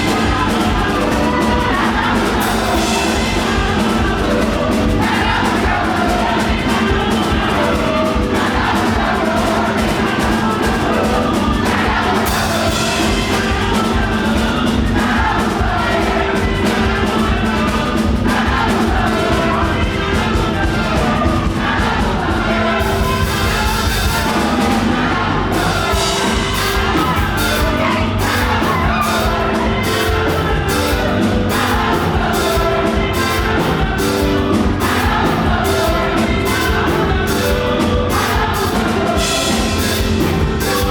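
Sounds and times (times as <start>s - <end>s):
congregation singing: 0.0s - 40.9s
crowd cheering and whooping: 0.0s - 40.9s
gospel band with drums: 0.0s - 40.9s.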